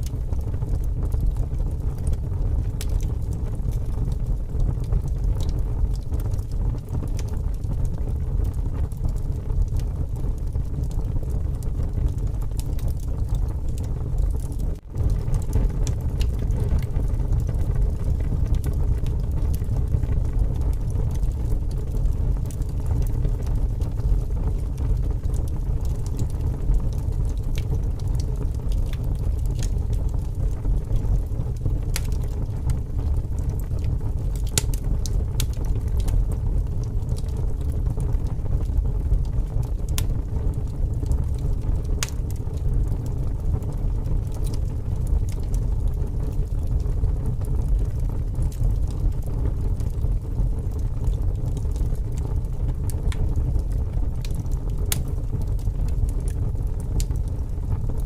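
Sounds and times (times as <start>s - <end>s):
strong wind rumble: 0.0s - 58.0s
wood fire crackling and popping: 0.0s - 58.0s.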